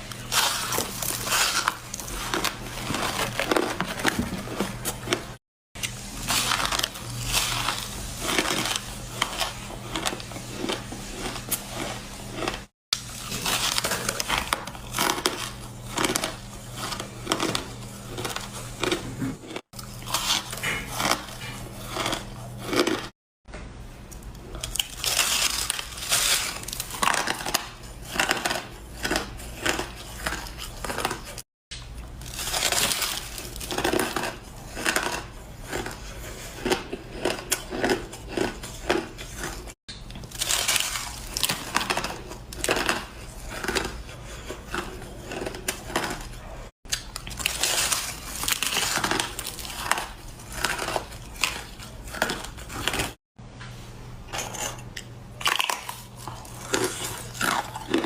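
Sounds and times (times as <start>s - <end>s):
ice being chewed: 0.0s - 23.2s, 24.2s - 53.2s, 54.4s - 58.0s.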